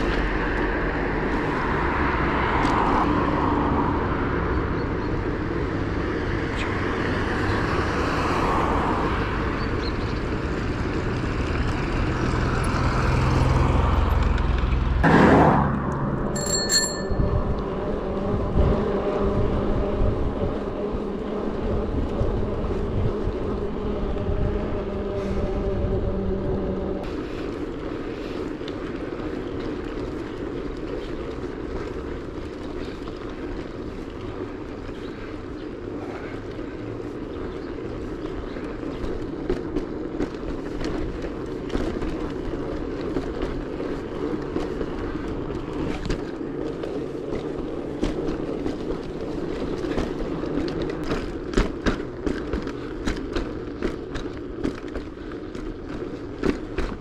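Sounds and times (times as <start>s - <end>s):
bicycle clicks and rattles: 0.0s - 3.4s, 4.5s - 15.0s, 15.9s - 17.7s, 27.0s - 57.0s
bicycle tyre and wind rush: 0.0s - 57.0s.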